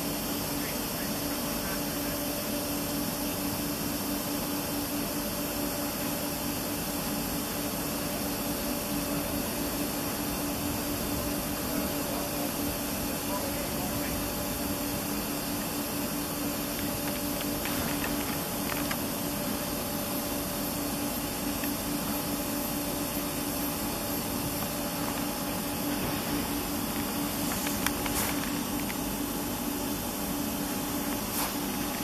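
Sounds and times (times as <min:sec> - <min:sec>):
train ventilation hiss and hum: 0:00.0 - 0:32.0.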